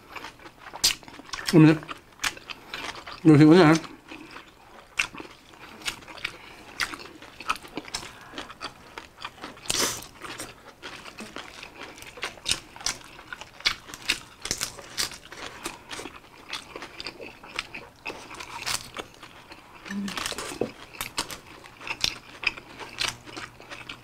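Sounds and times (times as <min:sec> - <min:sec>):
chewing crisp lettuce wraps: 0:00.0 - 0:24.0.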